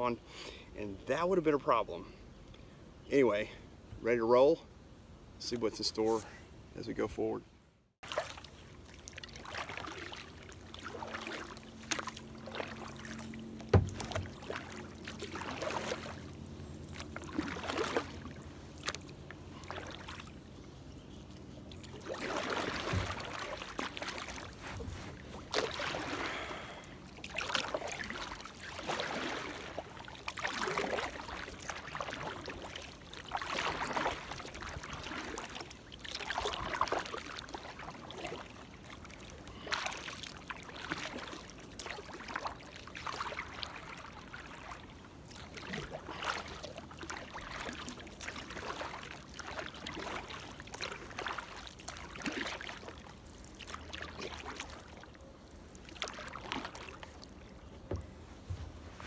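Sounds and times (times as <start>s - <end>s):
water splashing and dripping: 8.0s - 20.4s, 21.7s - 58.0s
paddle dipping into water: 8.0s - 59.0s.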